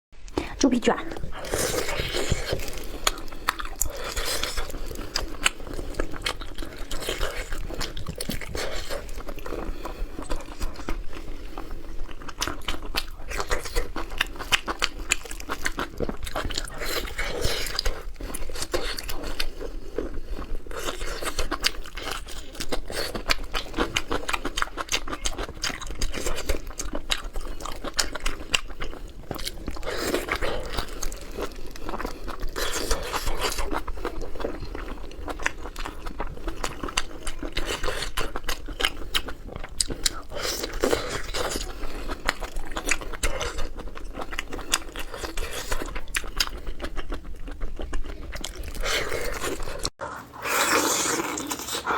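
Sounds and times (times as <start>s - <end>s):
person chewing crunchy food: 1.0s - 51.9s.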